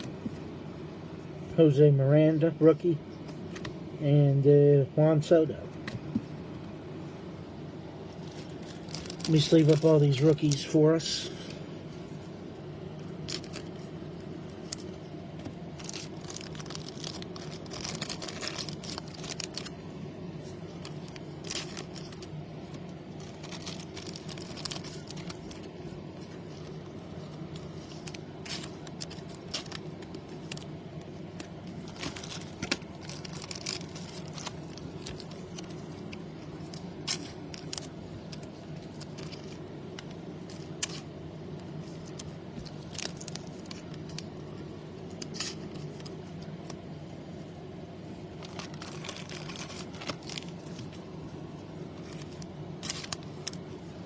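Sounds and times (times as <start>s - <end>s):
low background hum: 0.0s - 54.0s
plastic sleeves crinkling: 7.8s - 54.0s.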